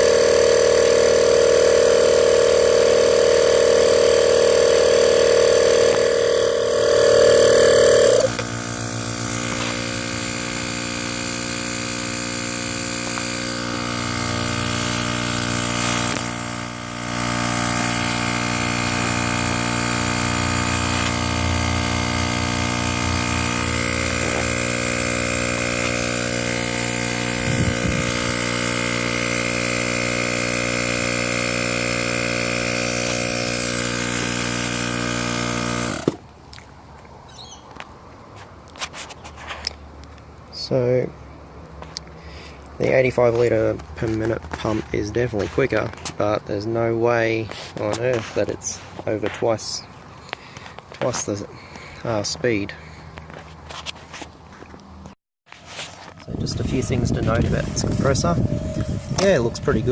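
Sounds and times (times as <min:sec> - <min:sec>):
air compressor running: 0:00.0 - 0:36.2, 0:41.8 - 0:46.5, 0:47.3 - 0:54.2, 0:55.6 - 0:59.9.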